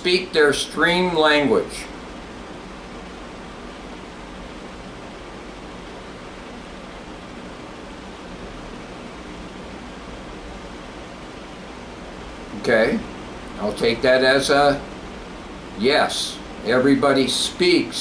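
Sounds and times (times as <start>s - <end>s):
faint low hum: 0.0s - 18.0s
room tone hiss: 0.0s - 18.0s.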